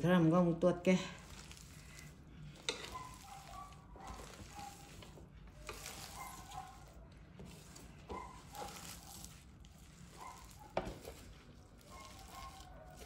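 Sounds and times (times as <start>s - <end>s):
wet rustling and squishing: 1.1s - 13.0s.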